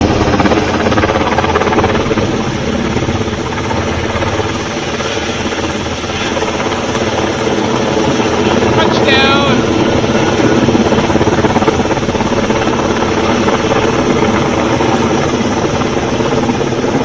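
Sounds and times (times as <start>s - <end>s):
helicopter in flight: 0.0s - 17.0s.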